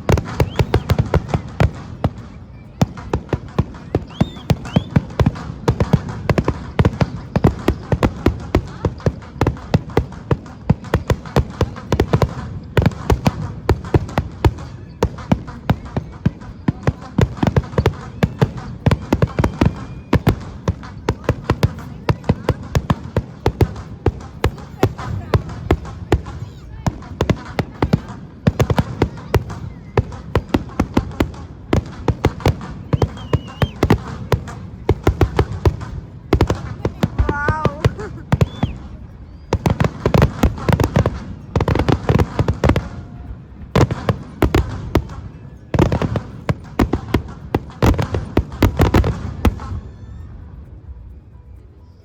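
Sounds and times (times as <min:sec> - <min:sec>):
fireworks bangs: 0:00.0 - 0:51.7
noisy background: 0:00.0 - 0:52.0.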